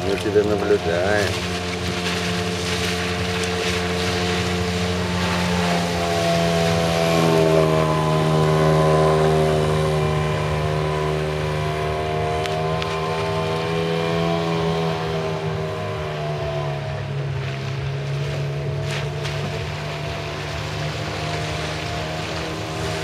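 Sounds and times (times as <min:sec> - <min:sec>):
outboard motor droning: 0:00.0 - 0:23.0.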